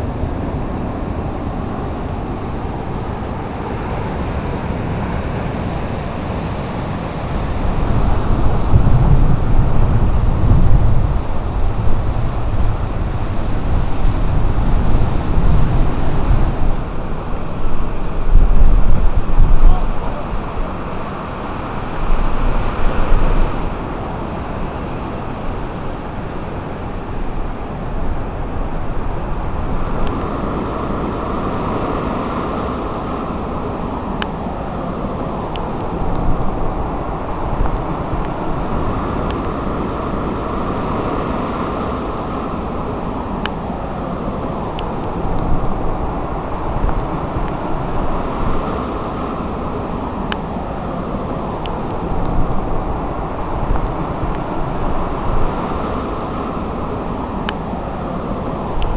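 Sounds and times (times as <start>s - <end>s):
surf breaking on shore: 0.0s - 58.9s
wind gust buffeting microphone: 0.0s - 58.9s
wind rushing: 0.0s - 58.9s.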